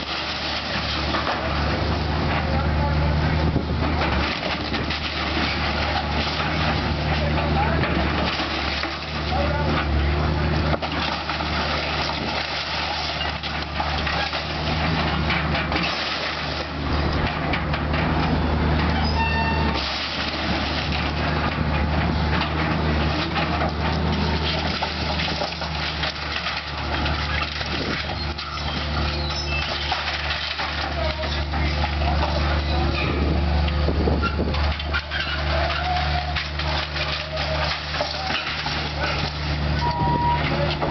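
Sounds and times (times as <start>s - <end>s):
debris clattering and crunching: 0.0s - 40.9s
heavy diesel machinery running: 0.0s - 40.9s.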